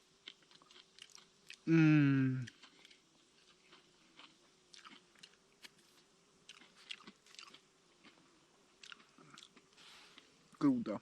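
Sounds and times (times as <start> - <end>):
person chewing food: 0.2 - 1.7, 2.3 - 10.4.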